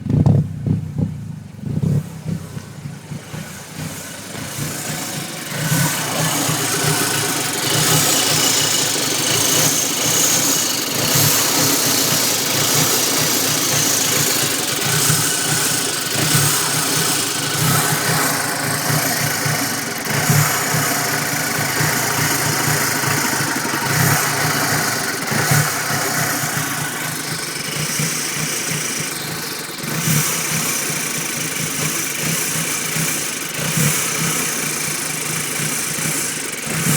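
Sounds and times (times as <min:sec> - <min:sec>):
car engine idling roughly: 0:00.0 - 0:36.9.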